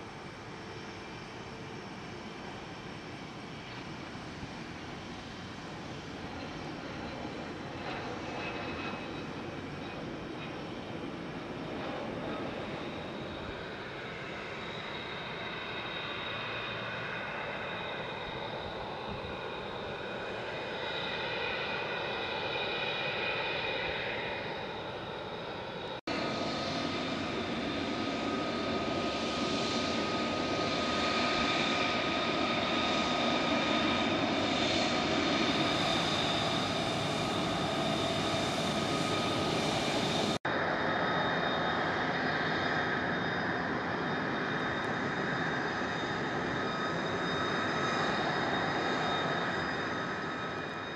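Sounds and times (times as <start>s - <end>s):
jet engine whining: 0.0s - 50.9s.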